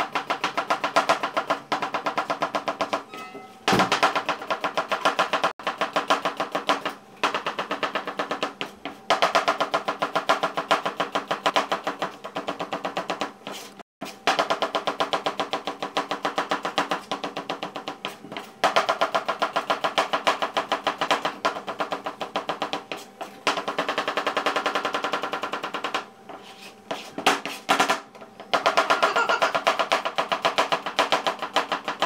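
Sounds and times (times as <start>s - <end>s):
knife slicing onions on cutting board: 3.8s - 24.0s, 24.6s - 32.0s.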